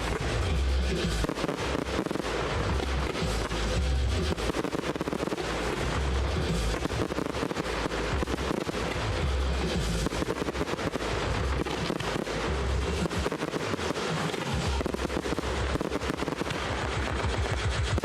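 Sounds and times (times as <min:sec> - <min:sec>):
fireworks crackling and bangs: 0:00.0 - 0:18.0.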